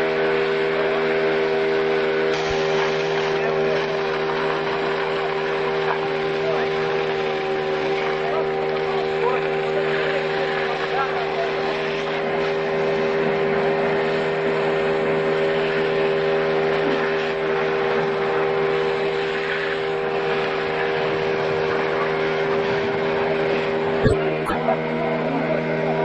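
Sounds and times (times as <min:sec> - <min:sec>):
engine droning steadily: 0:00.0 - 0:26.0.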